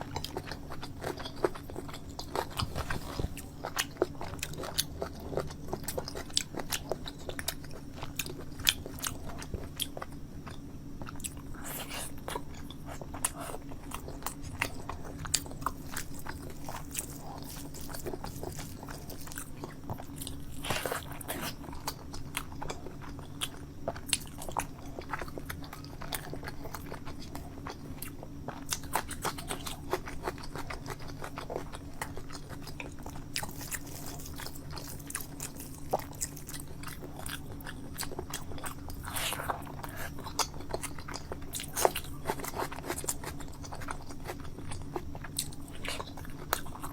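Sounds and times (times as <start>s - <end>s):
person chewing with mouth smacks: 0.0s - 46.9s.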